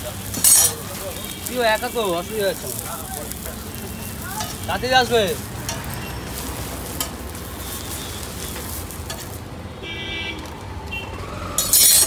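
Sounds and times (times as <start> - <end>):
oil sizzling on a griddle: 0.0 - 9.7.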